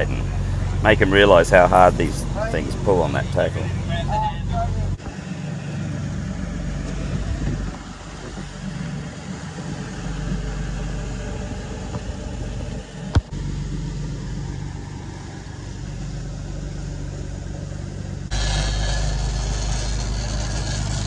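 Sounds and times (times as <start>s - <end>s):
boat diesel engines droning: 0.0s - 21.0s.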